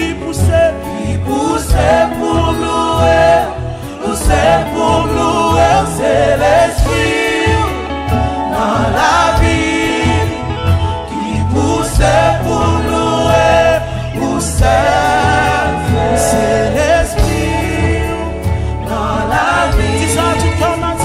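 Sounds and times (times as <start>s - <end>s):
backing choir singing: 0.0s - 21.0s
bass: 0.0s - 21.0s
drums: 0.0s - 21.0s
lead singer: 0.0s - 21.0s.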